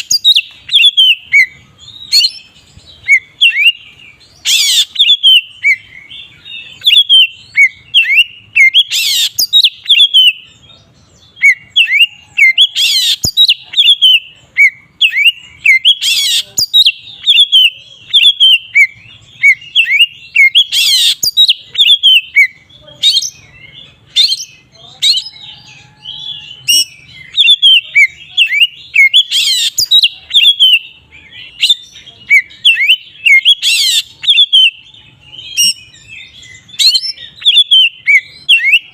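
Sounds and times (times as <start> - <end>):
magpie-robin whistling song: 0.0 - 10.6, 11.2 - 38.9.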